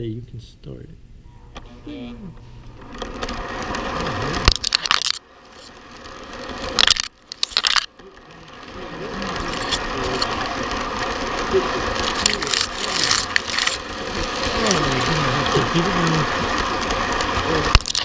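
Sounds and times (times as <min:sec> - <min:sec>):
model train rattling on track: 0:02.8 - 0:18.0.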